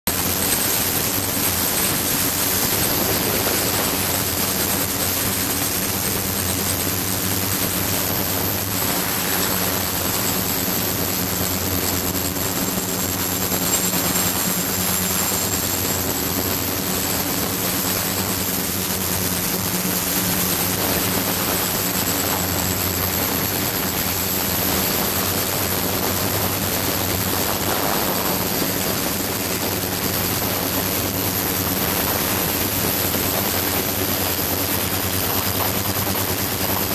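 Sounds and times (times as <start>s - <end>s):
thin high-pitched whine: 0.1s - 36.9s
ultrasonic bath humming: 0.1s - 36.9s.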